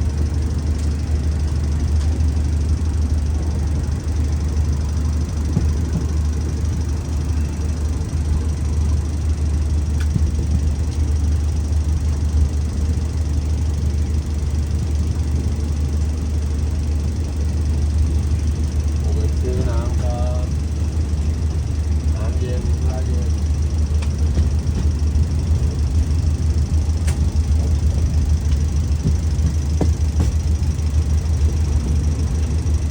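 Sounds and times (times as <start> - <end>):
locomotive engine humming: 0.0 - 32.9.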